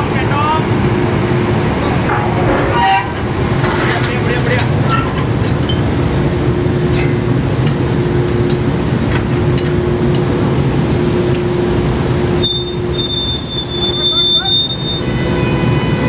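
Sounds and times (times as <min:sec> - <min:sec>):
drilling rig machinery drone: 0:00.0 - 0:16.0.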